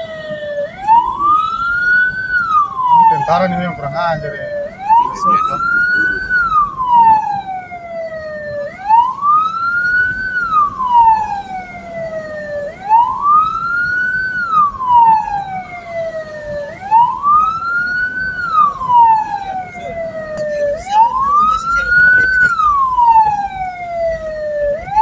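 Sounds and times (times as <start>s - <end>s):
siren wailing: 0.0s - 25.0s.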